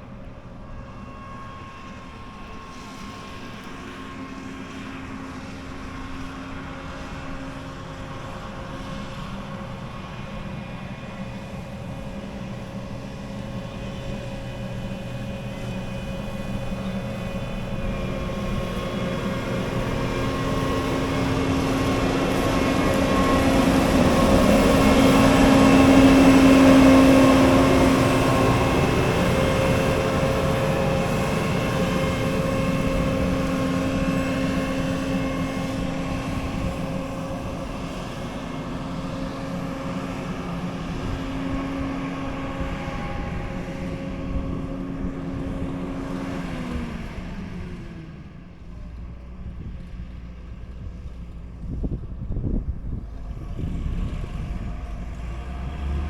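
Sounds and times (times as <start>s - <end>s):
mechanical engine hum: 0.0s - 56.0s.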